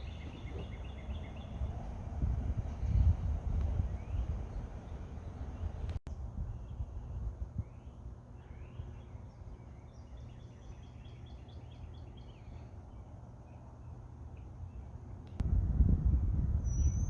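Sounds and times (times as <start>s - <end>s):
steady low rumble: 0.0s - 9.6s, 12.5s - 17.0s
songbirds singing: 0.0s - 15.4s, 16.6s - 17.0s.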